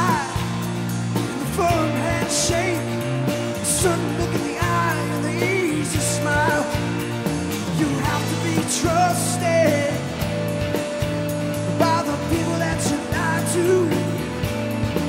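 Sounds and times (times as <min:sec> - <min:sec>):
sliding lead melody: 0:00.0 - 0:15.0.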